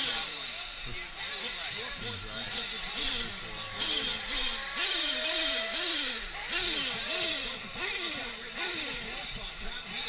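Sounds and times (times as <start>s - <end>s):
rc truck engines revving: 0.0s - 10.0s.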